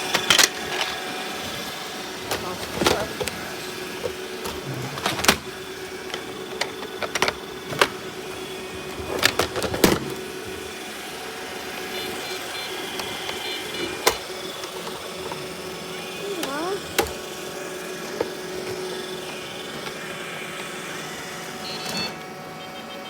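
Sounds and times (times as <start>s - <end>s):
robot vacuum motor hum: 0.0s - 23.0s.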